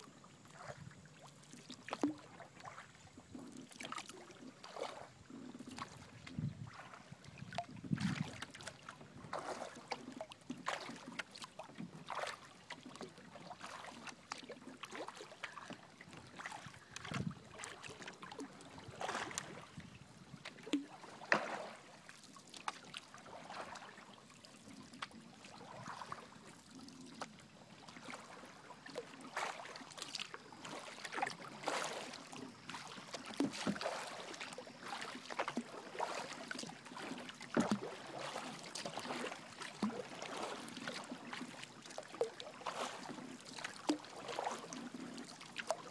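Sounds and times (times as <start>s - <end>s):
kayak paddle splashing water: 0.0s - 45.9s.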